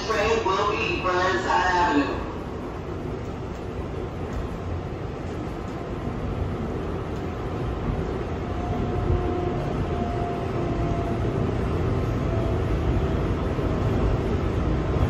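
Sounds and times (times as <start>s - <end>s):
subway wheels rumbling on rail: 0.0s - 15.0s.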